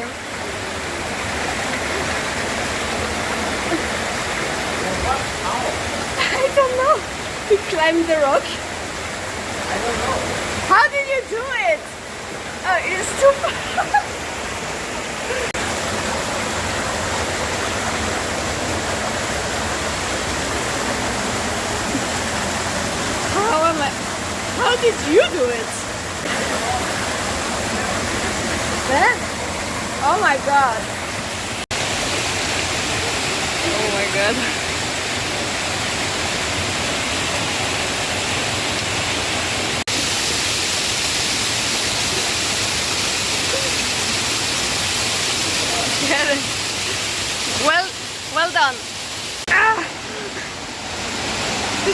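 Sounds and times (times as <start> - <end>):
stream water rushing over rocks: 0.0 - 51.9.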